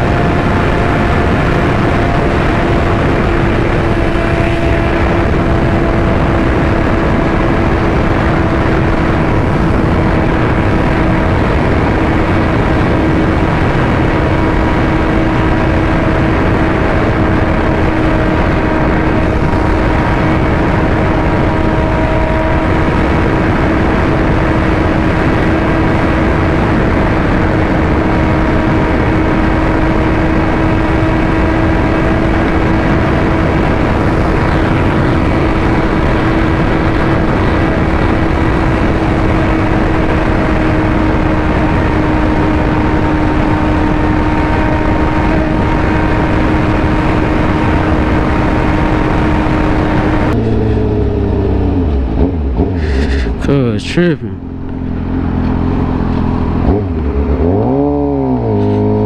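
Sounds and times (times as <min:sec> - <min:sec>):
motorcycle engine droning: 0:00.0 - 0:59.0
wind rush on microphone: 0:00.0 - 0:59.0.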